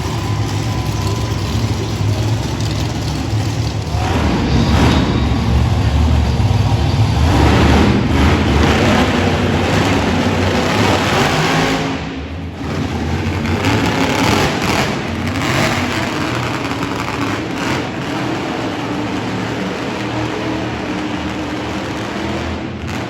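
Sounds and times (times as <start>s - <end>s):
truck engine revving loudly: 0.0s - 23.0s.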